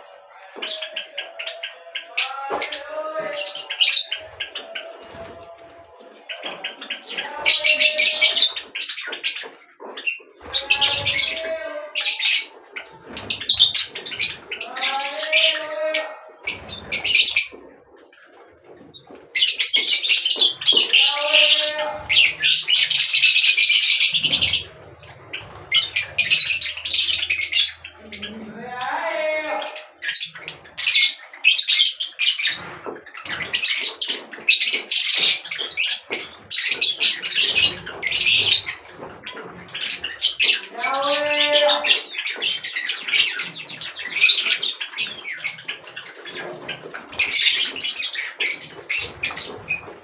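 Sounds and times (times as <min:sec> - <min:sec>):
birds chattering harshly: 0:00.0 - 0:50.0.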